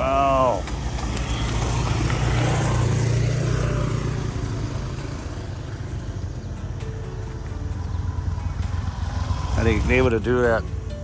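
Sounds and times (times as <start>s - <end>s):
small motorbike engine labouring: 0.0s - 10.2s.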